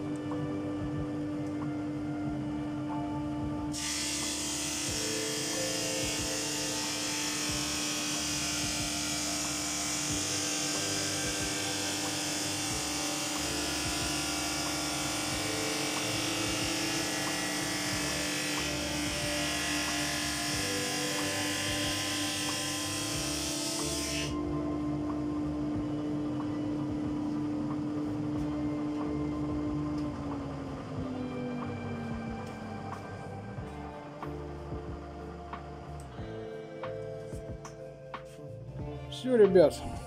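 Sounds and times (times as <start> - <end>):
drum sander motor hum: 0.0 - 36.4.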